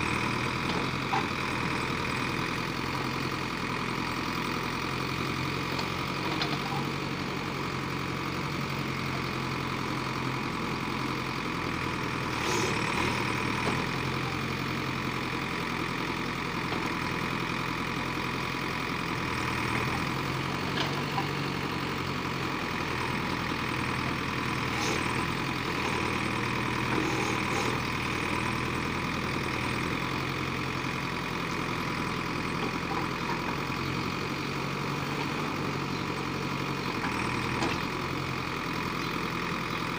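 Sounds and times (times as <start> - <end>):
backhoe diesel engine running: 0.0 - 39.9
backhoe digging soil: 0.0 - 39.9.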